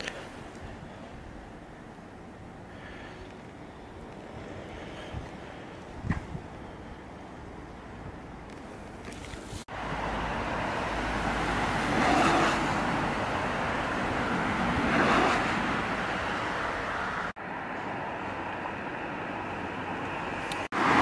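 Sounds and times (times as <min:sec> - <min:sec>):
cars passing: 0:00.0 - 0:21.0
steady traffic noise: 0:00.0 - 0:21.0.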